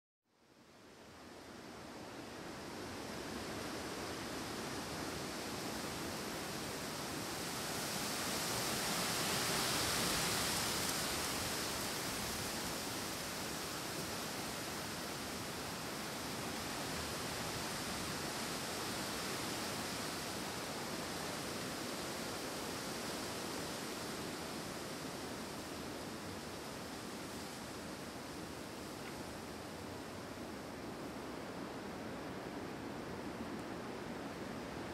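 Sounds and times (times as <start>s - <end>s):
wind rushing through trees: 0.4s - 34.9s.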